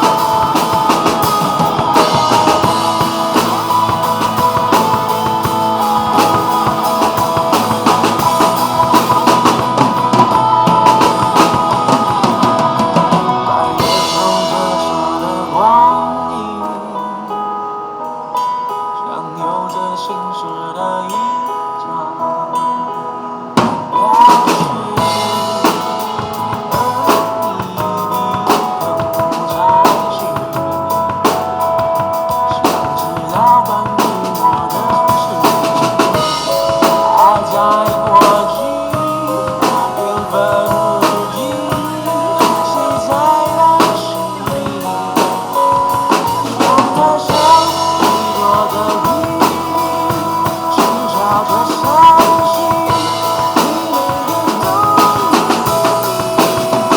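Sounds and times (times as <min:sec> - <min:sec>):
drum kit groove: 0:00.0 - 0:16.6, 0:23.6 - 0:56.9
melodic backing music: 0:00.0 - 0:56.9.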